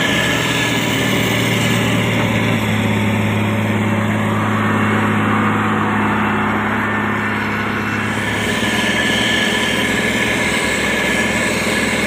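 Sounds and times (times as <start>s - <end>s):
diesel engine of heavy machinery: 0.0s - 12.0s.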